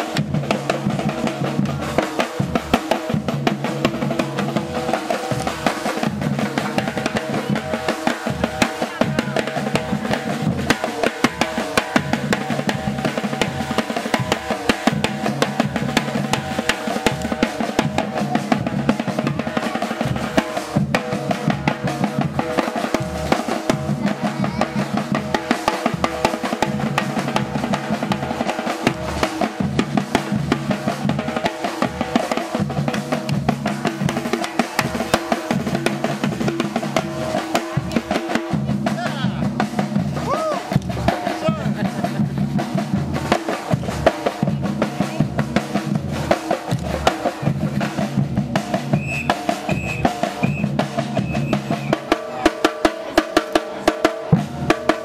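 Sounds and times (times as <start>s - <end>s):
drum kit playing fast rhythm: 0.0s - 55.0s.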